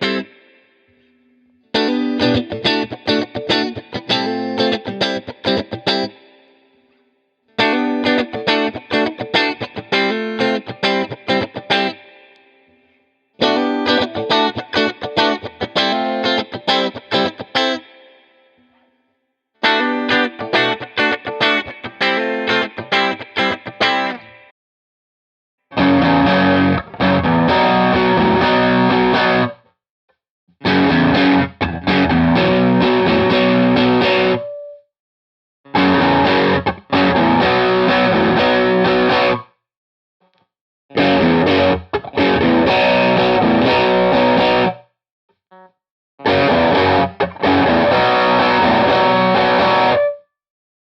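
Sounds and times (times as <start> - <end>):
electric guitar phrases: 0.0 - 6.7, 7.6 - 18.8, 19.6 - 24.5, 25.7 - 29.6, 30.6 - 34.7, 35.7 - 39.5, 40.9 - 44.8, 46.2 - 50.2.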